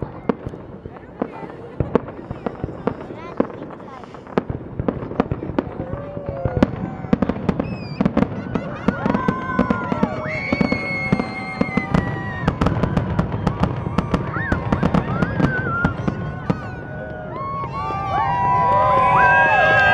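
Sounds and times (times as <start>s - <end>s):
fireworks bangs and crackles: 0.0s - 19.9s
whistling fireworks: 0.0s - 19.9s.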